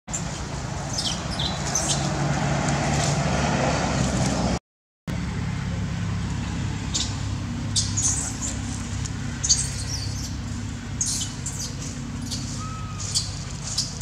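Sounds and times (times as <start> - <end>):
motor vehicle rumble: 0.1 - 14.0.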